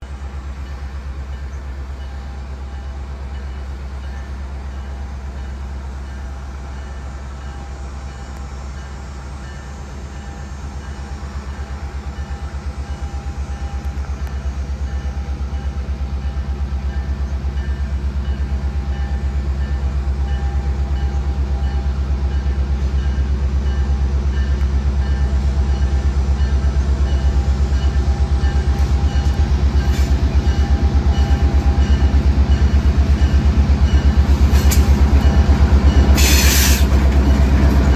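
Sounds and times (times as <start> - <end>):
diesel locomotive engine rumble: 0.0 - 37.9.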